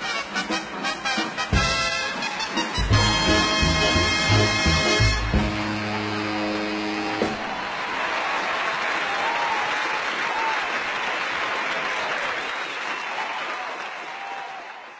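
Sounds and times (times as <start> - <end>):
crowd applauding: 0.3 - 14.9.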